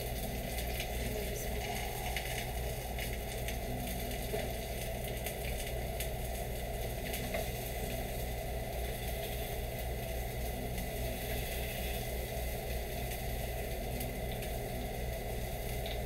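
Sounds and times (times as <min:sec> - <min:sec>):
low hum: 0:00.0 - 0:15.8
mushrooms sizzling in oil: 0:00.0 - 0:16.0.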